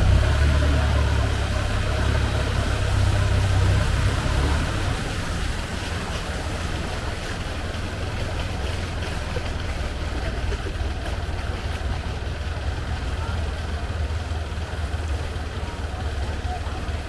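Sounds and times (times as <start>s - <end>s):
boat engine rumble: 0.0s - 17.0s
water and wind noise: 0.0s - 17.0s.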